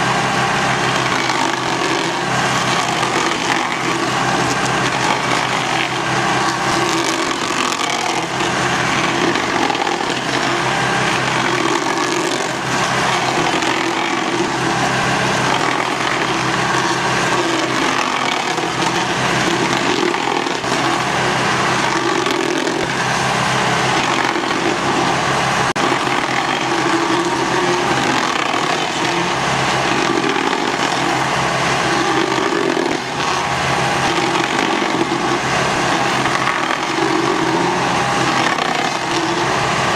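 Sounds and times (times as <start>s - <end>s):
stump grinder grinding wood: 0.0s - 39.9s
tractor engine drone: 0.0s - 39.9s.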